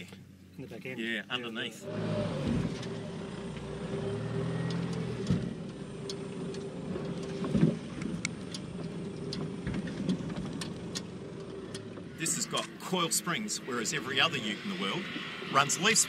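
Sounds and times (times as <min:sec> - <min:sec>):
diesel engine running at low revs: 0:01.8 - 0:16.0
drivetrain hum: 0:01.9 - 0:16.0.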